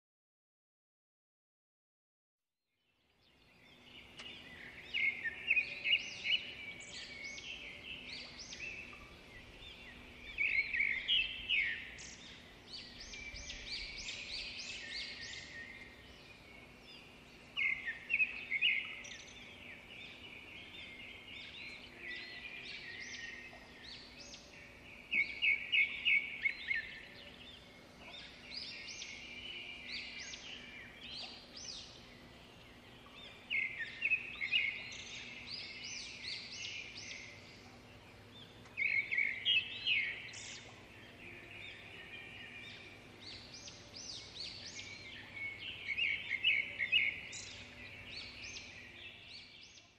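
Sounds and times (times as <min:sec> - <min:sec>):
birds singing rapid chirps: 0:02.9 - 0:49.9.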